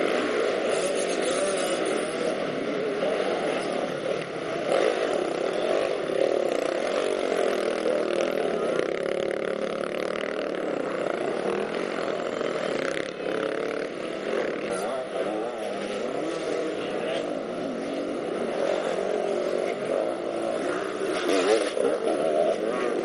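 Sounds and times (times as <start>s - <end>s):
motorcycle engines revving: 0.0s - 23.0s.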